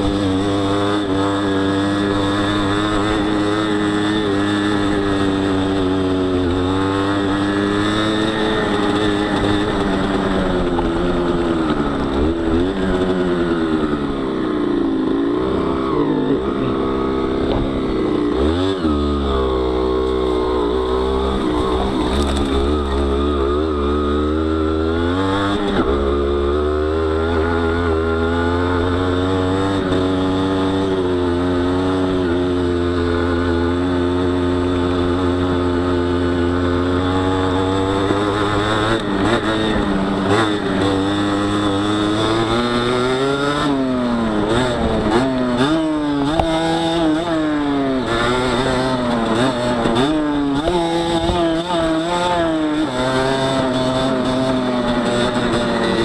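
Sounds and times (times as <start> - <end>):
two-stroke motorbike engine revving: 0.0 - 56.0.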